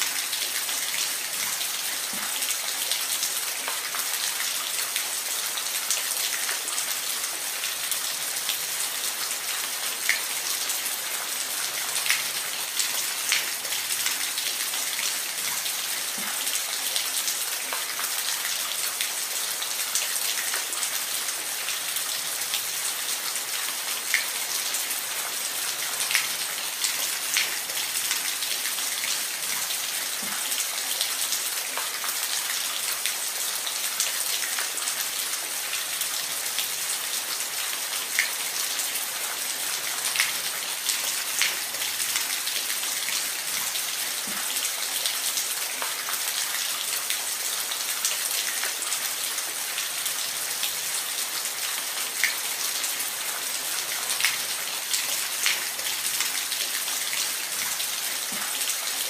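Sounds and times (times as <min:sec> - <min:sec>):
rush of falling water: 0:00.0 - 0:59.0.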